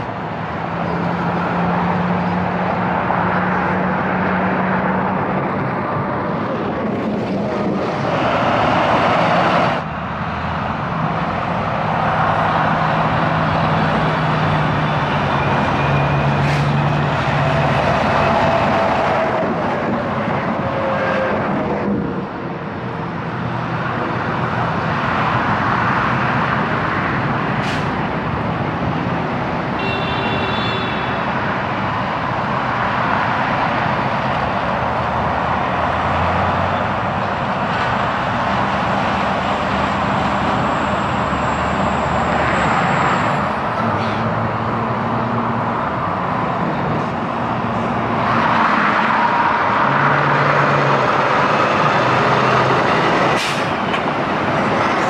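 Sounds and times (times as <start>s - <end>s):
diesel engines humming: 0.0s - 55.0s
highway traffic passing: 0.0s - 55.0s.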